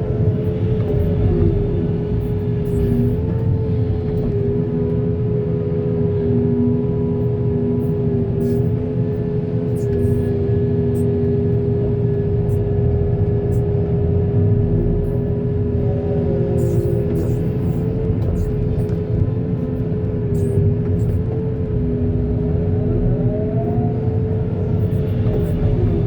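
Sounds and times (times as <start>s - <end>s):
steady machine whine: 0.0s - 26.0s.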